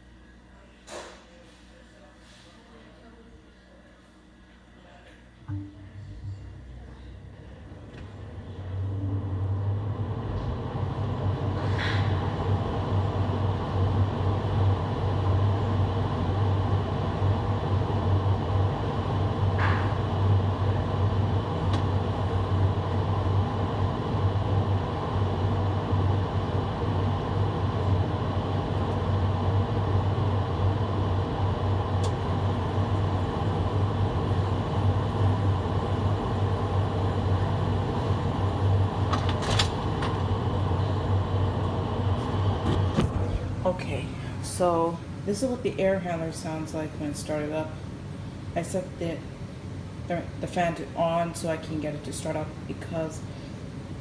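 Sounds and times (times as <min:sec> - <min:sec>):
blower fan humming: 0:00.0 - 0:54.0.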